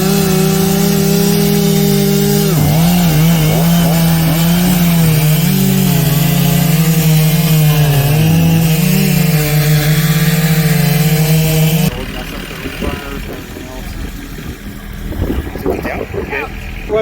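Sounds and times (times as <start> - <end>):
chainsaw cutting wood: 0.0 - 15.3.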